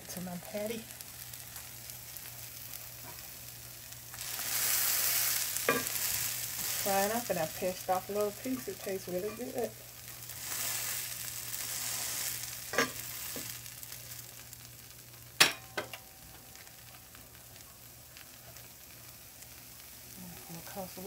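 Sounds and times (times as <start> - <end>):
patty sizzling in oil: 0.0 - 21.0.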